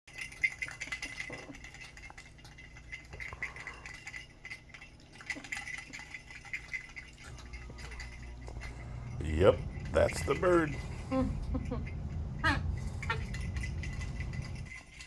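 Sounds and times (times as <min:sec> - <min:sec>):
faint steady ringing tone: 0:00.1 - 0:15.0
toy rattling and clinking: 0:00.1 - 0:15.0.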